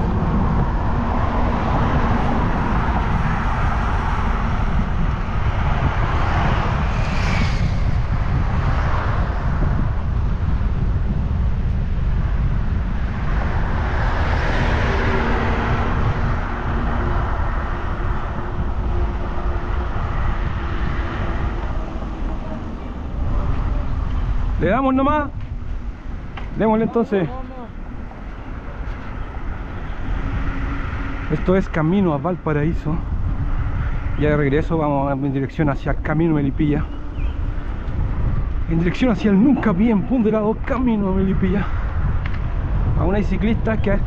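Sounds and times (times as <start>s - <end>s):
road traffic passing: 0.0s - 44.0s
wind rumble on microphone: 0.0s - 44.0s.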